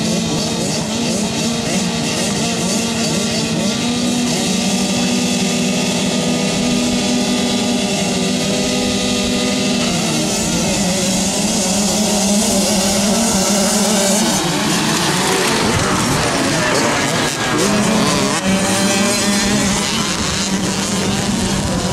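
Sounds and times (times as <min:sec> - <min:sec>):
dirt bike engines at high revs: 0:00.0 - 0:21.9.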